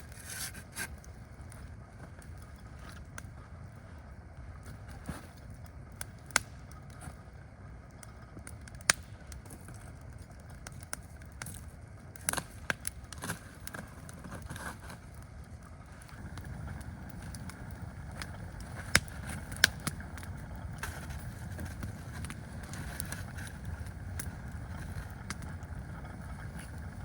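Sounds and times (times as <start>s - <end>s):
campfire crackling and popping: 0.0s - 27.0s
low steady rumble: 0.0s - 27.0s.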